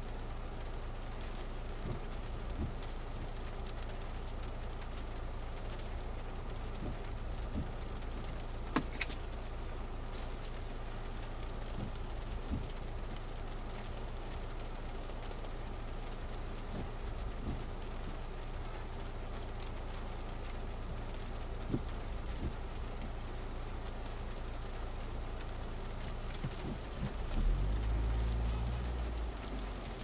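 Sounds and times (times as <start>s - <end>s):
rain on car roof: 0.0s - 30.0s
windshield wiper sweeping: 0.0s - 30.0s.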